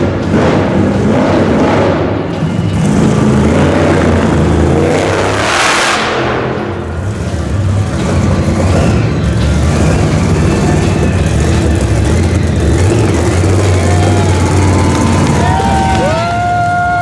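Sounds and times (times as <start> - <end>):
truck engine revving loudly: 0.0 - 17.0.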